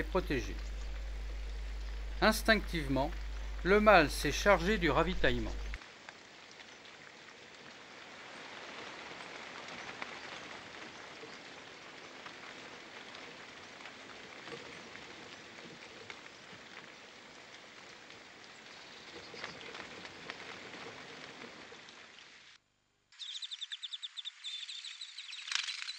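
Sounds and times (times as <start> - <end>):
rain on leaves: 0.0 - 22.6.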